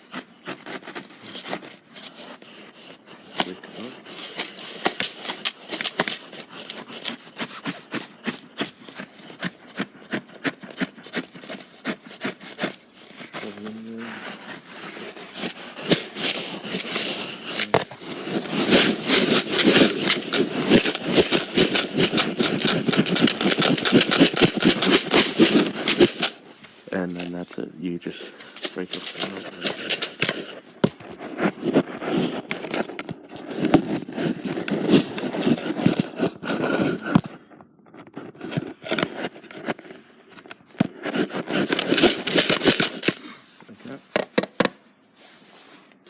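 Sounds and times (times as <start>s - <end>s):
screwdriver chipping ice: 0.0s - 13.7s, 14.3s - 27.2s, 28.3s - 37.2s, 40.8s - 43.3s.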